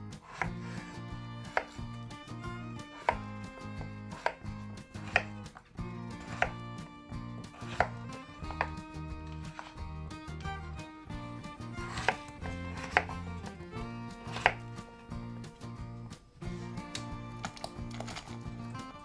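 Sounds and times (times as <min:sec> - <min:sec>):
knife chopping on cutting board: 0:00.1 - 0:10.5, 0:11.4 - 0:14.9, 0:16.5 - 0:18.9.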